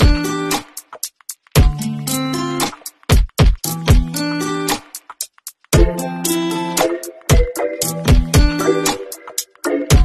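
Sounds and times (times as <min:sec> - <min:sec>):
music with drum beat: 0:00.0 - 0:10.0.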